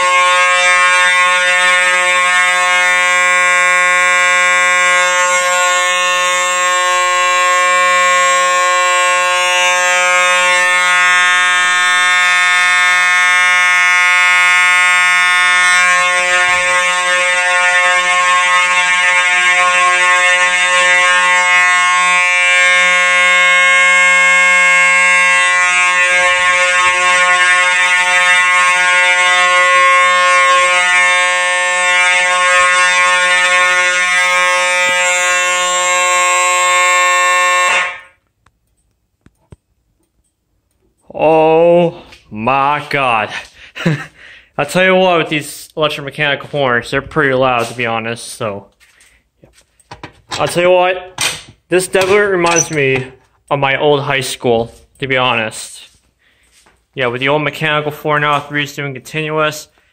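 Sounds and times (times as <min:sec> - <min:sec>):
fire alarm horns blaring: 0:00.0 - 0:38.9, 0:40.0 - 0:59.9.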